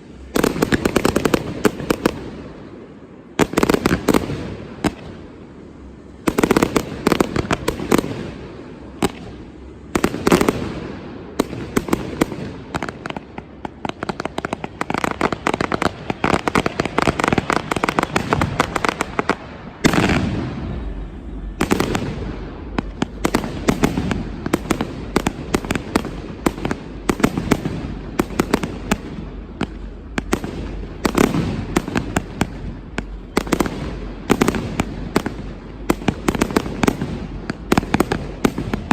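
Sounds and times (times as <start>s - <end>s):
rapid firework crackling: 0.0s - 38.9s.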